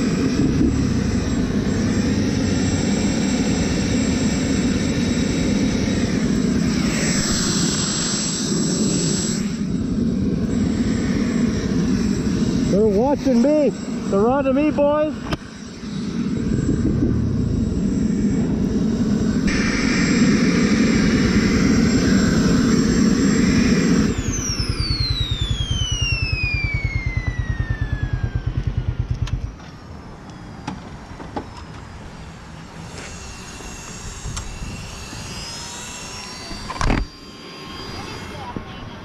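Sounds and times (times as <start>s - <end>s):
motorcycle engine whining: 0.0s - 38.8s.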